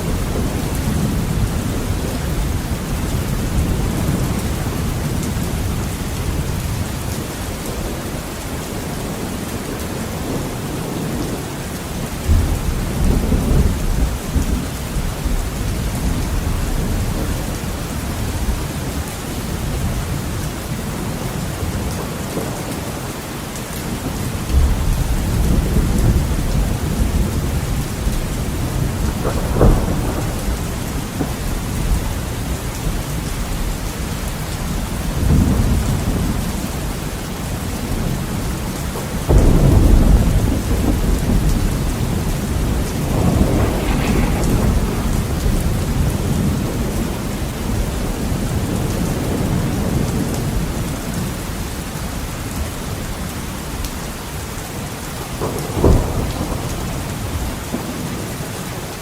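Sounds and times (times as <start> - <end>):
thunder rumbling: 0.0 - 19.0, 23.9 - 51.3, 55.4 - 58.4
rain pattering on a window: 0.0 - 59.0.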